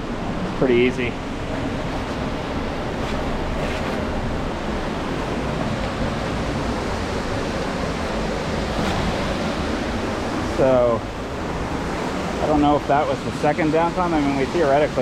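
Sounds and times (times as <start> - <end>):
creek water flowing: 0.1 - 15.0.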